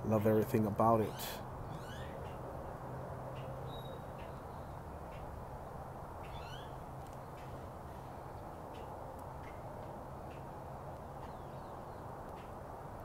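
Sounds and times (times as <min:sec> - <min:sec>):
birds chirping: 0:00.1 - 0:12.5.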